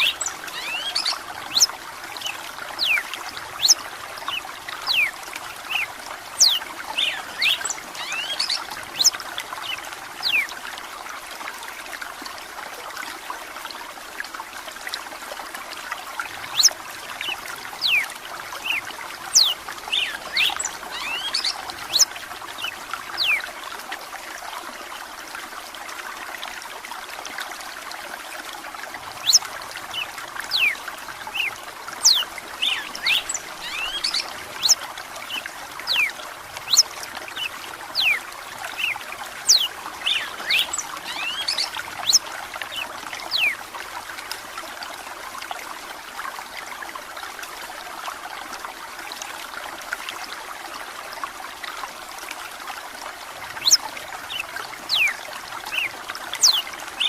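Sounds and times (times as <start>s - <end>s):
running water trickling: 0.0s - 57.0s.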